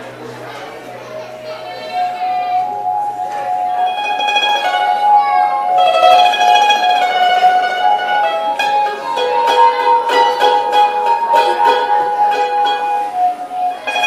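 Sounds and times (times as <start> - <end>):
held melody notes: 0.0 - 14.0
plucked guitar: 0.0 - 14.0
rhythmic guitar strumming: 0.8 - 14.0.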